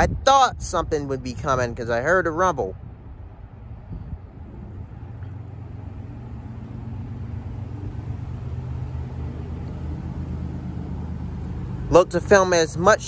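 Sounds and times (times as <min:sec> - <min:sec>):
distant locomotive engine rumble: 0:00.0 - 0:13.0.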